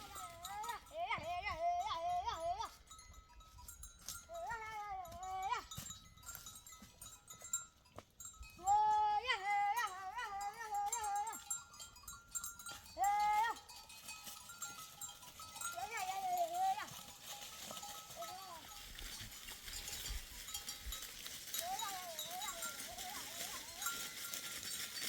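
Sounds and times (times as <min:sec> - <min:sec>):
sheep and goats bleating: 0:00.0 - 0:03.0, 0:04.1 - 0:06.6, 0:08.5 - 0:25.0
animal bell ringing faintly: 0:00.0 - 0:25.0.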